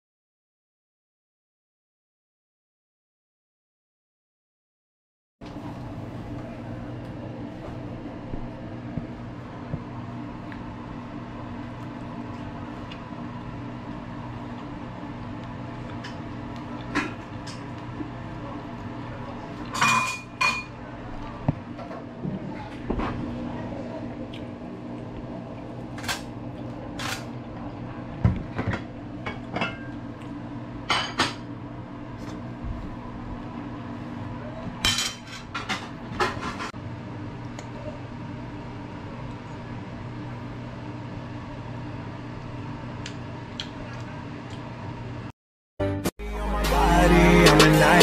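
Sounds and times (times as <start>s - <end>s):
fan humming: 5.4s - 45.3s, 46.2s - 48.0s.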